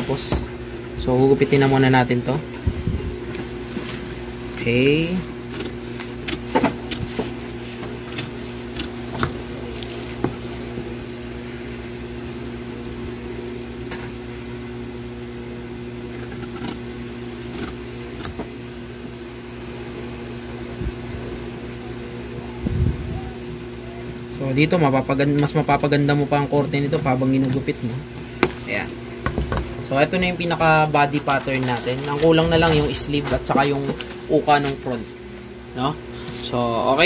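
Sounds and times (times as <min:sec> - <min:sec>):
background hum: 0:00.0 - 0:37.0.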